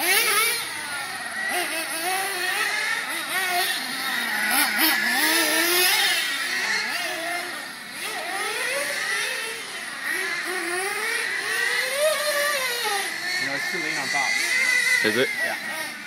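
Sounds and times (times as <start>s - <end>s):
small two-stroke engine revving: 0.0s - 16.0s.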